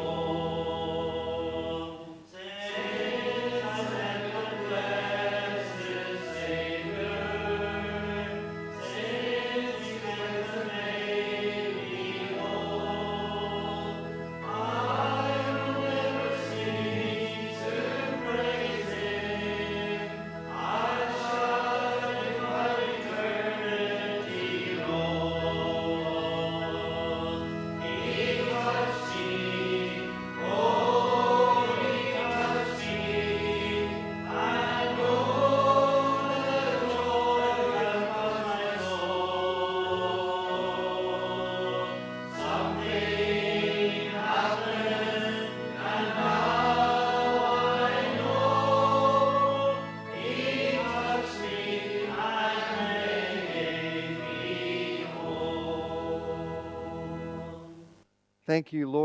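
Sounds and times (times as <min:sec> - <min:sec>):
congregation singing a hymn: 0:00.0 - 0:57.9
instrumental accompaniment: 0:02.8 - 0:59.0.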